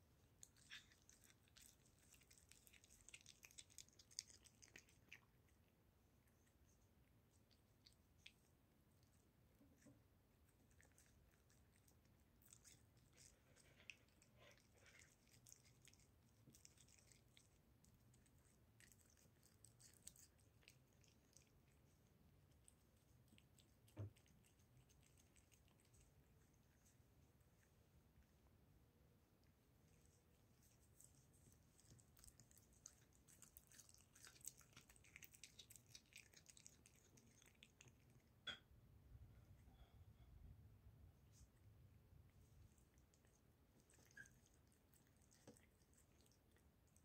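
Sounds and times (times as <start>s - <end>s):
kitten licking and chewing: 0.0s - 47.0s.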